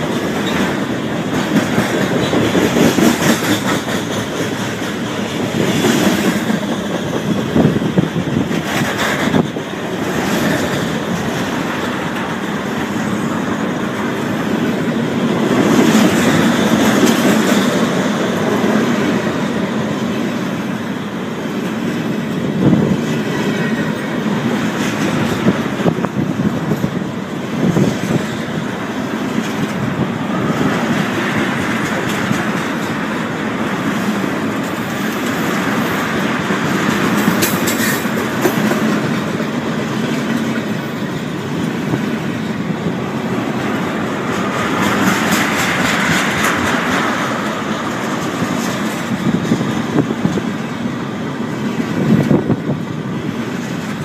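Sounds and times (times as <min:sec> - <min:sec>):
steel wheels rumbling on rail: 0:00.0 - 0:54.0
wheels clacking over rail joints: 0:00.0 - 0:54.0.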